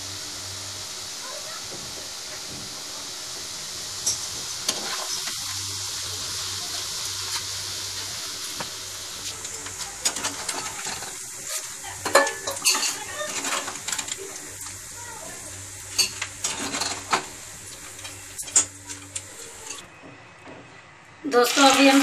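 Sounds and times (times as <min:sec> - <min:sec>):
hot oil sizzling: 0:00.0 - 0:19.9, 0:21.3 - 0:22.0.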